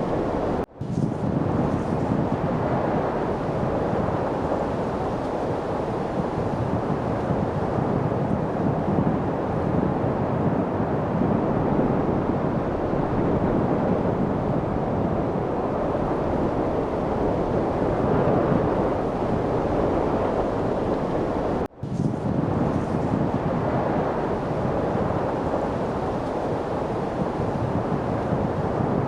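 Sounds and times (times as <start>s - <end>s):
wind: 0.0s - 29.0s.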